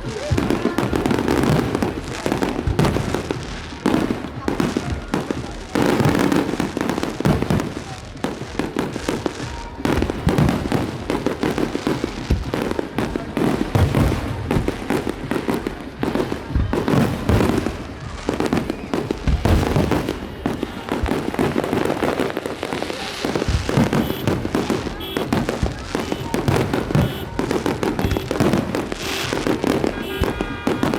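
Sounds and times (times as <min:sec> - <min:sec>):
fireworks bangs and crackling pops: 0:00.0 - 0:30.9.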